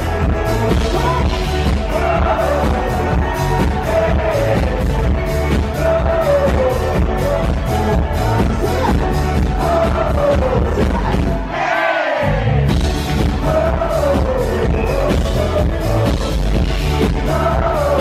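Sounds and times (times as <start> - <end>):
man singing: 0.0 - 11.4, 13.1 - 18.0
drums steady beat: 0.0 - 11.5, 12.6 - 18.0
live rock-pop band: 0.0 - 18.0.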